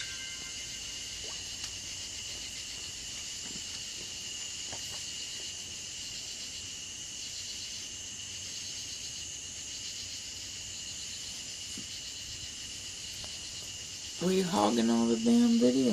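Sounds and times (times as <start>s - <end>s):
insects trilling: 0.0s - 15.9s.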